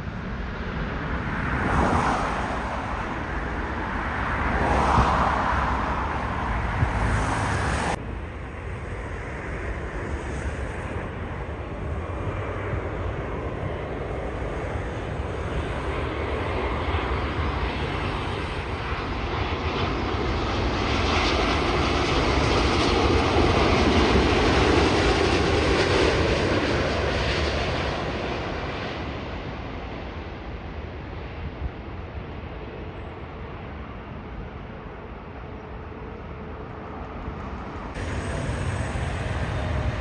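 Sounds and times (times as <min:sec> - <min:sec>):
jet airliner passing: 0:00.0 - 0:40.0.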